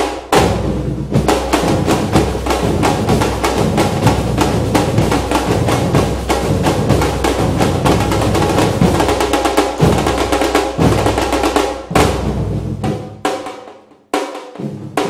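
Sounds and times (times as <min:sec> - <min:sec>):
fast drums and percussion: 0:00.0 - 0:15.0.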